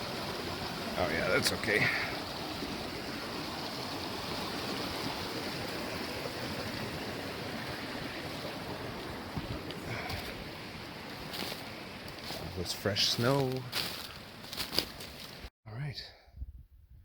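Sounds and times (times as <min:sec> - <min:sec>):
stream rushing over rocks: 0:00.0 - 0:15.5.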